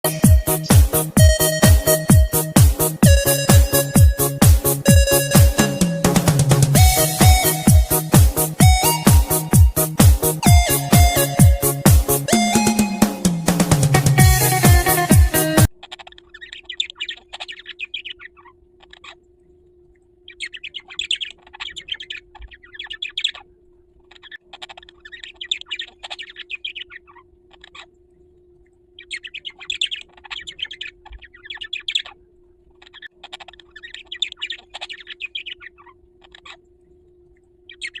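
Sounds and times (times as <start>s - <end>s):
bird chirping and twittering: 0.1s - 13.4s, 15.9s - 19.2s, 20.3s - 23.4s, 24.1s - 27.9s, 29.0s - 32.2s, 32.8s - 36.7s, 37.7s - 38.0s.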